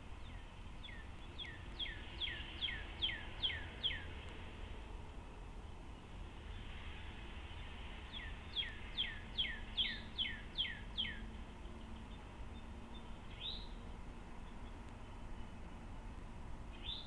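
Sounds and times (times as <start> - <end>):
songbird singing: 0.0 - 4.6, 7.4 - 17.0.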